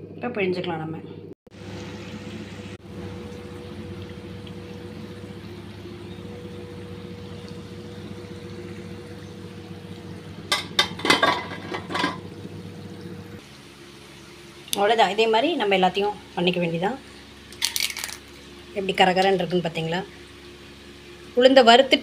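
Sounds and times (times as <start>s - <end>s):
low hum: 1.1s - 21.4s
food sizzling in hot oil: 1.5s - 22.0s.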